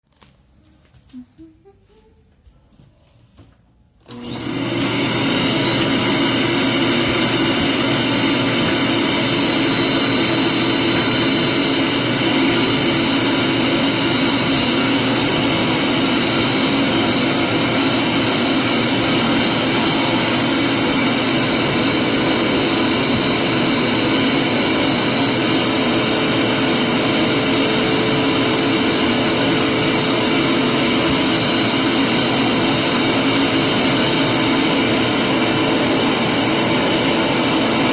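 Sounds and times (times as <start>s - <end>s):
vacuum cleaner running: 4.0s - 37.9s.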